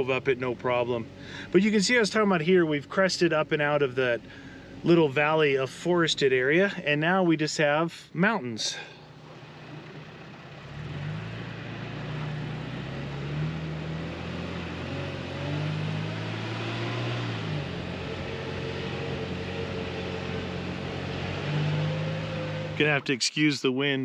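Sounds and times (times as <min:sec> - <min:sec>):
truck engine running: 0:00.0 - 0:06.9, 0:08.7 - 0:23.1.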